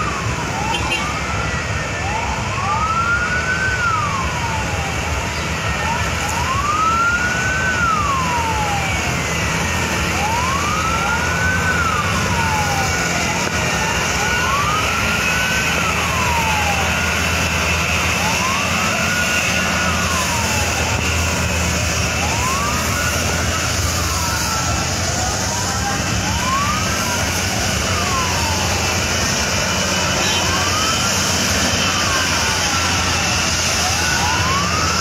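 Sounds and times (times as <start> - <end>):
fire truck siren wailing: 0.0 - 35.0
low engine drone: 0.0 - 35.0
steady rushing noise: 0.0 - 35.0.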